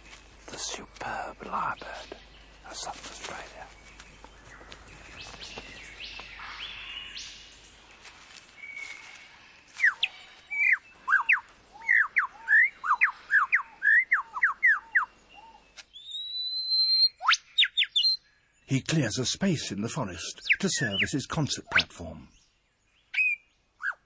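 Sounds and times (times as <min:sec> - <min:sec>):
lyrebird singing: 0:00.0 - 0:24.0.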